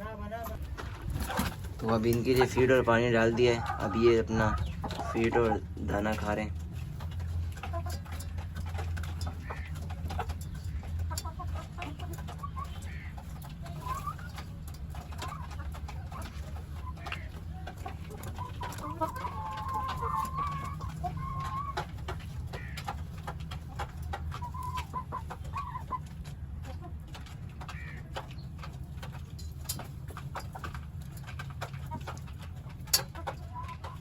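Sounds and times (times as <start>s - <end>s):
chickens clucking: 0.0s - 34.0s
chickens pecking grain: 0.0s - 34.0s.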